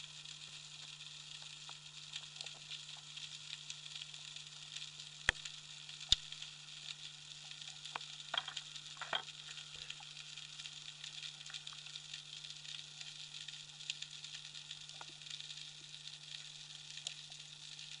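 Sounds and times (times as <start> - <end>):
underwater crackling and hiss: 0.0 - 18.0.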